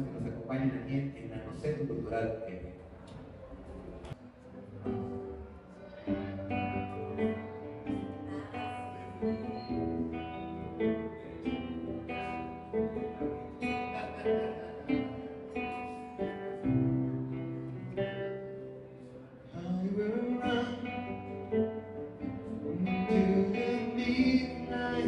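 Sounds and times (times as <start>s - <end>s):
classical guitar chords: 4.0s - 25.0s.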